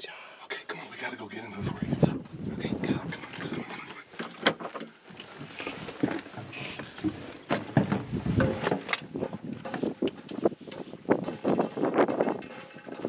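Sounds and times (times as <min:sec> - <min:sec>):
camera rustling against clothing: 0:00.9 - 0:13.0.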